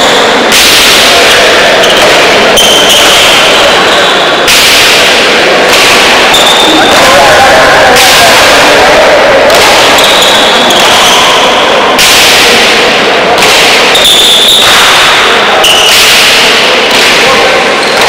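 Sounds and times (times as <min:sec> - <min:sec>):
ball hits echoing in a hall: 0:00.0 - 0:18.0.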